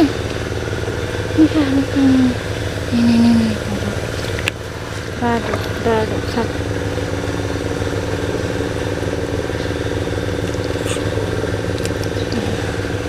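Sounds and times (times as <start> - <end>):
small engine driving water pump: 0.0 - 13.0.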